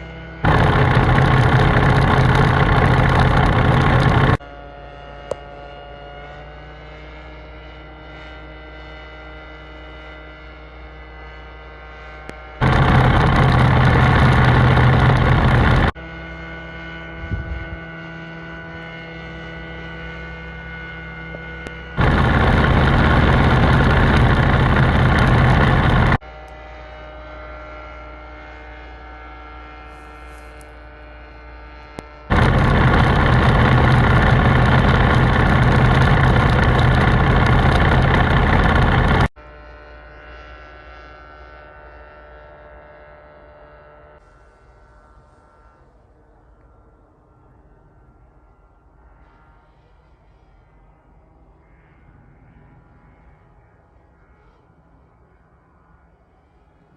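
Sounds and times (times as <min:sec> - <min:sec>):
light aircraft engine droning: 0:00.0 - 0:56.9.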